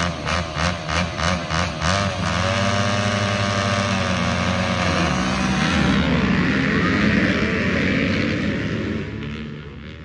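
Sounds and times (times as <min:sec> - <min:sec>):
motorbike engine running: 0:00.0 - 0:10.0.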